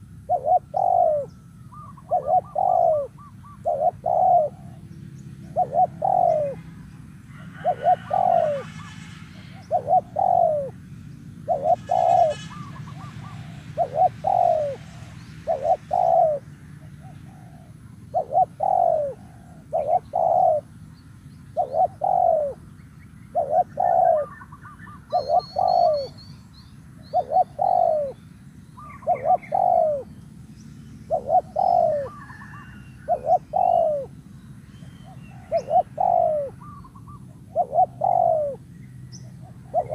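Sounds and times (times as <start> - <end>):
dove cooing: 0.0 - 20.8, 21.5 - 22.7, 23.3 - 26.2, 27.0 - 30.2, 31.0 - 34.2, 34.8 - 39.9
small birds chirping: 0.0 - 39.9.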